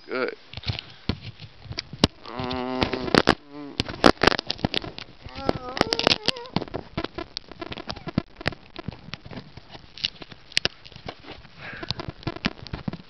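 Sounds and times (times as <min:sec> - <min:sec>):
rustling: 0:00.4 - 0:13.0
microphone handling noise: 0:00.5 - 0:13.0.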